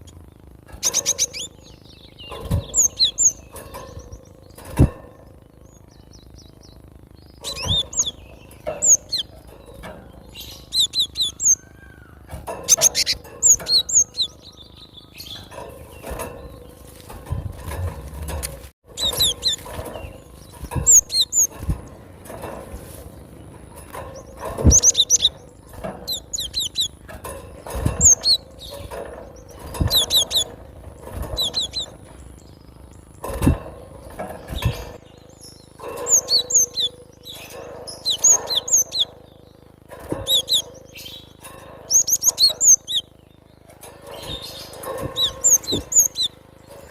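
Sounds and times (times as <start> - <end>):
bird chirping: 0.0 - 17.4, 18.2 - 46.9.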